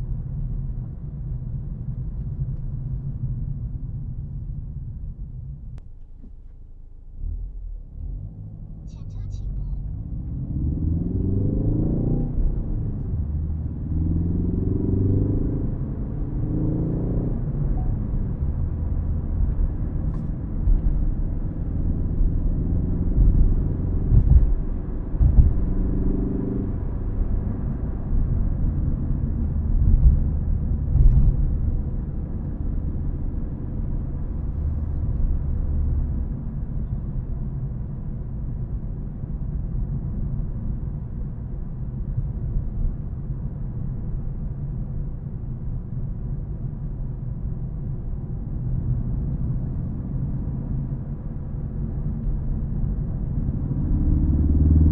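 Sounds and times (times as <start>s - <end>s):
road rumble: 0.0s - 54.9s
car engine accelerating: 5.7s - 45.5s, 47.9s - 54.9s.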